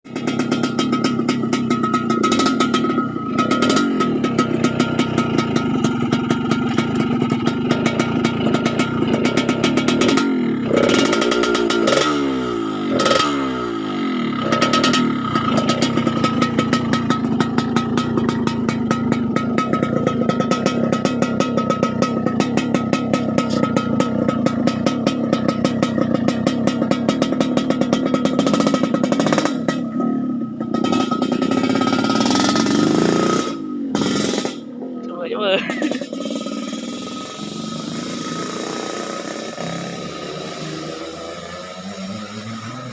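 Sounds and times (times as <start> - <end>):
two-stroke motorcycle engine running: 0.0 - 42.9.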